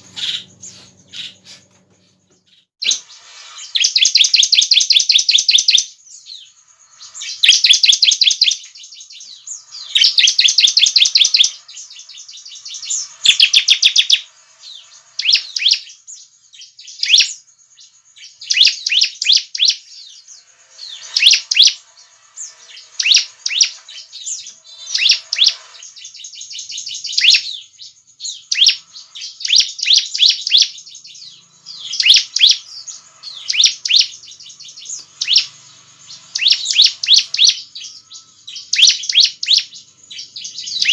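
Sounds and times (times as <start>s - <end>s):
bird rapid high chattering: 0.0s - 2.2s, 2.8s - 16.2s, 16.8s - 40.9s.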